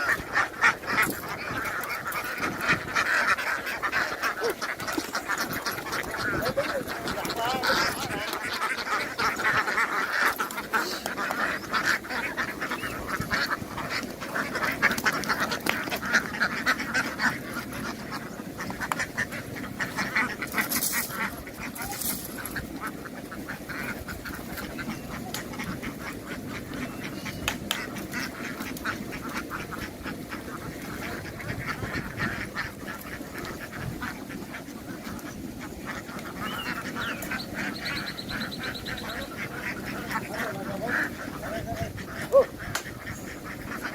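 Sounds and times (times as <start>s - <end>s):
ducks quacking: 0.0s - 43.9s.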